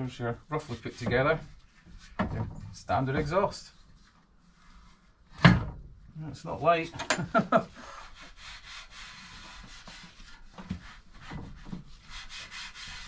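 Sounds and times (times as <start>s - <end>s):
cloth rubbing on metal exhaust: 0.0s - 5.4s, 6.0s - 13.0s.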